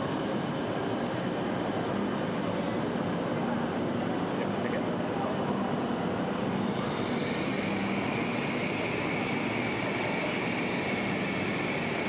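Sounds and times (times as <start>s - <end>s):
high train whine: 0.0s - 12.0s
train rushing hum: 0.0s - 12.0s.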